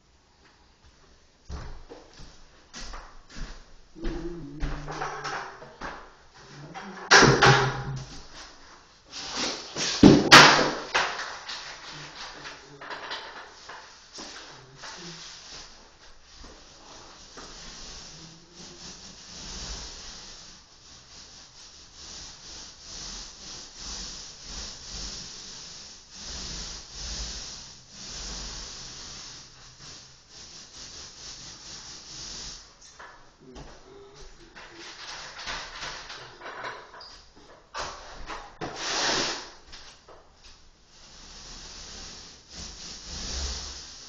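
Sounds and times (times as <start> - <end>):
rubbing strokes against surface: 3.4 - 32.8, 33.4 - 36.2, 40.9 - 44.0.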